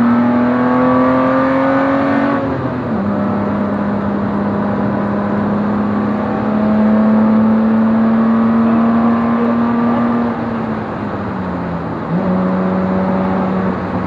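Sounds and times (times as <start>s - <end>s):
race car engine at high revs: 0.0s - 14.0s
road and wind noise: 0.0s - 14.0s.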